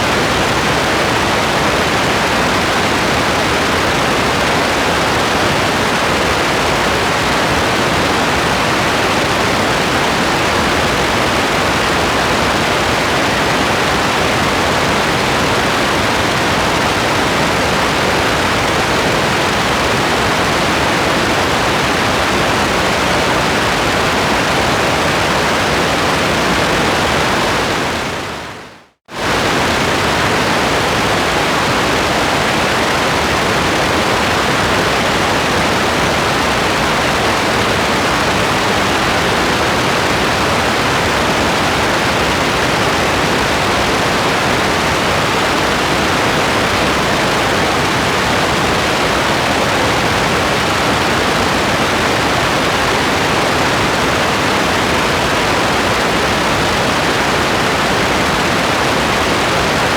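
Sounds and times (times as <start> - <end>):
dense rain hiss: 0.0 - 59.9.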